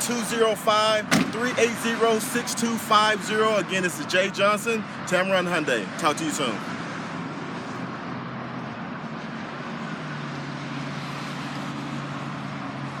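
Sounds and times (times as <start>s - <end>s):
low vehicle hum: 0.0s - 13.0s.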